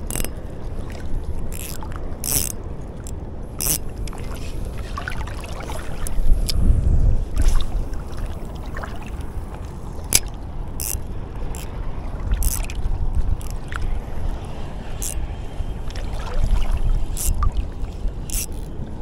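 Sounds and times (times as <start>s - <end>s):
water rumble: 0.0s - 19.0s
wind on microphone: 0.0s - 19.0s.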